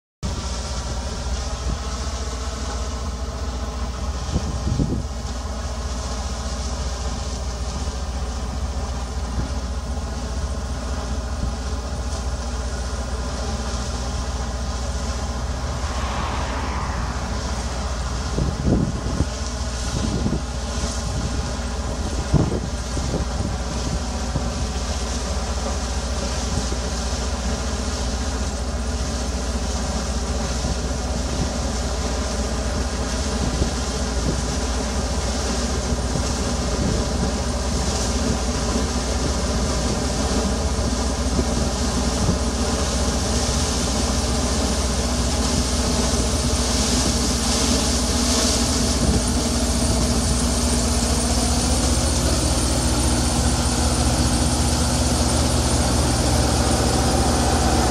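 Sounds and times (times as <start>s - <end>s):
combine harvester humming: 0.2s - 57.9s.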